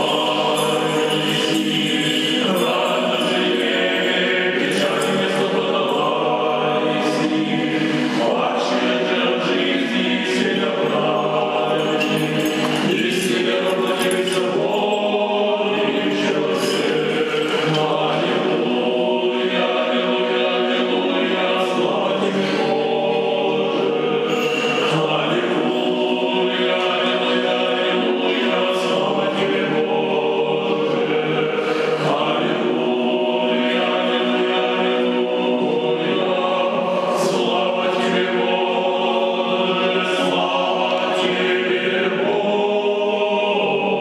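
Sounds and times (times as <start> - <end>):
choir chanting unaccompanied: 0.0 - 44.0.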